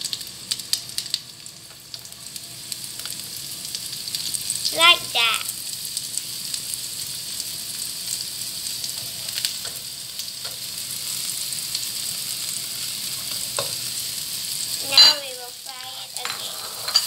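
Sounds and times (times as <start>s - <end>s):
mushrooms sizzling in hot oil: 0.0s - 17.0s.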